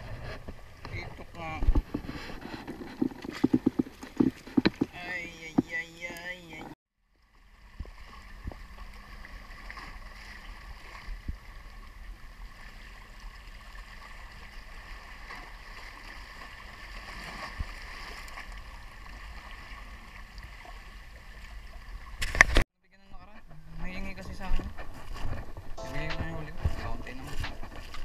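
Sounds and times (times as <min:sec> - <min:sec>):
water lapping against rocks: 0:00.0 - 0:22.6.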